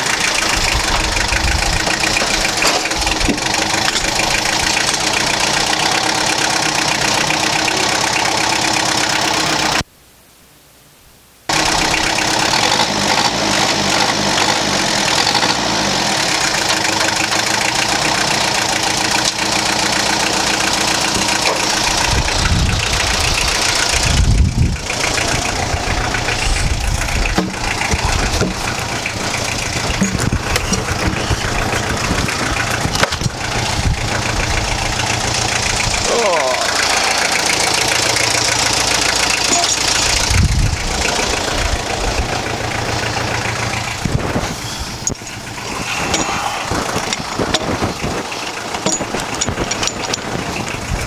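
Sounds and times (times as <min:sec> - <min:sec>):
deep engine rumble: 0:00.0 - 0:09.9, 0:11.5 - 0:51.0
tractor engine running: 0:00.0 - 0:09.9, 0:11.5 - 0:51.0.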